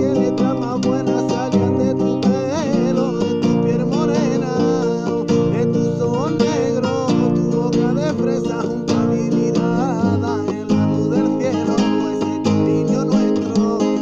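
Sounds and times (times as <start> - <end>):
man singing: 0.0 - 14.0
strummed acoustic guitar: 0.0 - 14.0.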